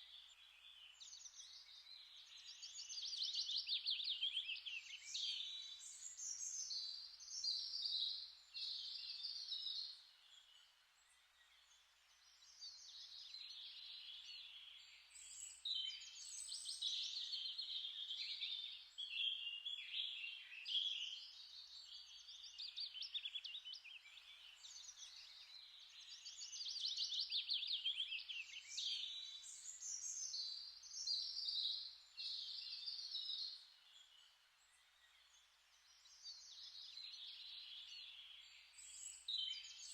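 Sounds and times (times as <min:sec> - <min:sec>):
songbirds twittering and trilling: 0:00.0 - 0:39.9.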